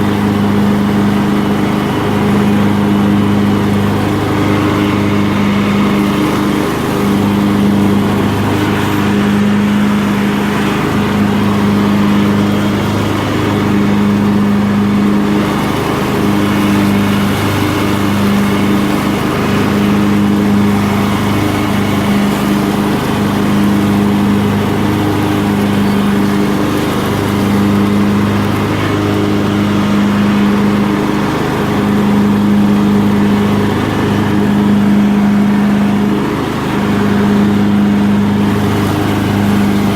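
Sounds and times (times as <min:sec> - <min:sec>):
lawn tractor engine drone: 0:00.0 - 0:39.9.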